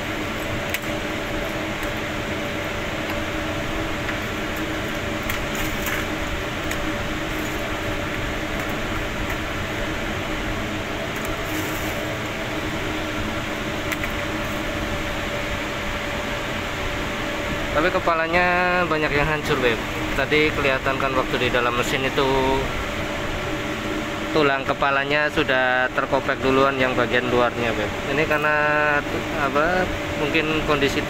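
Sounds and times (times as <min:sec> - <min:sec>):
machinery humming: 0:00.0 - 0:31.0.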